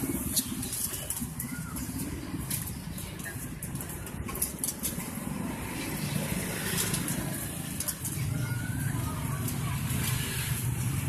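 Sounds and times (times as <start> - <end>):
street traffic rumbling: 0.0 - 11.0.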